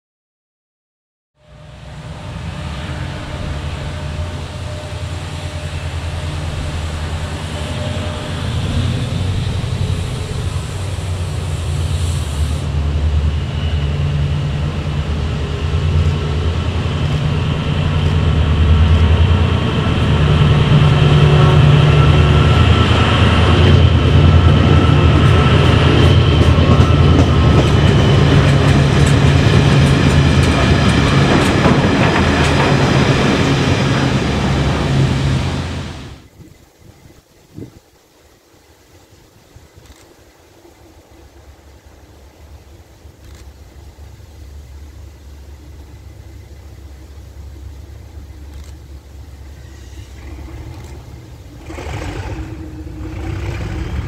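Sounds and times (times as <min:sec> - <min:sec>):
diesel locomotive engines: 0:01.4 - 0:54.0.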